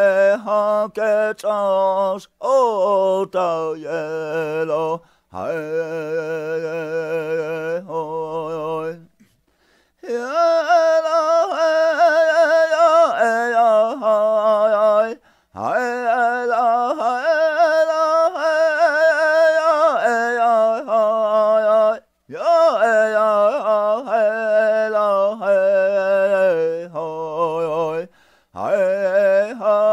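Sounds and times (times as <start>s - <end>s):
man singing unaccompanied: 0.0s - 9.3s, 10.0s - 29.9s.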